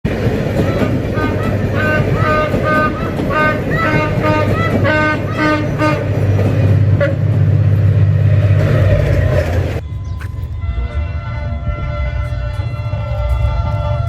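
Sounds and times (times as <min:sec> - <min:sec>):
diesel engine drone: 0:00.1 - 0:14.0
locomotive horn short toots: 0:00.6 - 0:07.4, 0:08.9 - 0:14.0.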